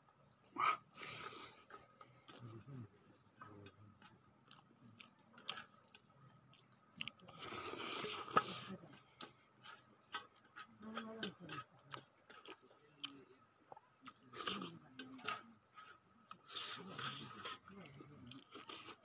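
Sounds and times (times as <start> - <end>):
man chewing with wet smacks: 0.3 - 19.0.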